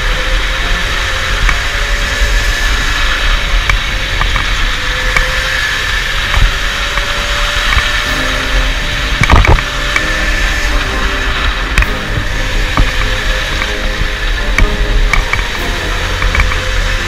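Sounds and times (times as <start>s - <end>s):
electric motor whine: 0.0s - 17.0s
kart wheels rolling on concrete: 0.0s - 17.0s.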